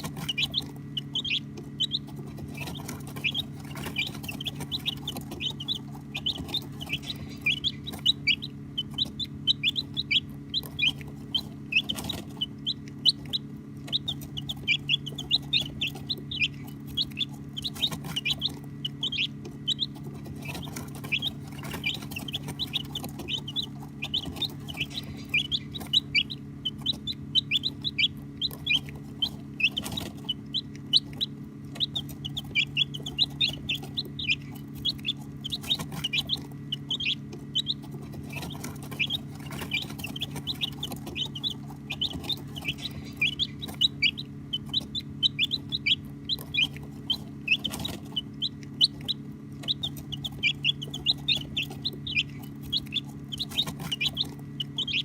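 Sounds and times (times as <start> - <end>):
baby chicks peeping: 0.0 - 55.0
steady low hum: 0.0 - 55.0.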